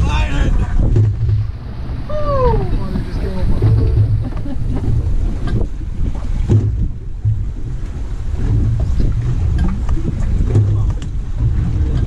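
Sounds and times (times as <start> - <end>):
waves washing against hull: 0.0 - 12.0
wind rumbling on microphone: 0.0 - 12.0.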